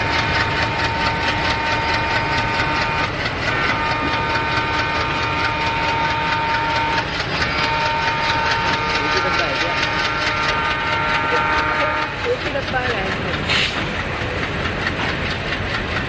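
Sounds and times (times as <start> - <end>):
diesel locomotive engine clatter: 0.0 - 16.0.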